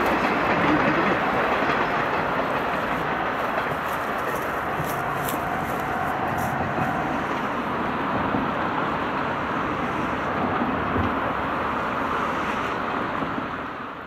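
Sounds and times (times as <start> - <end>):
distant steam locomotive exhaust rush: 0.0 - 14.0.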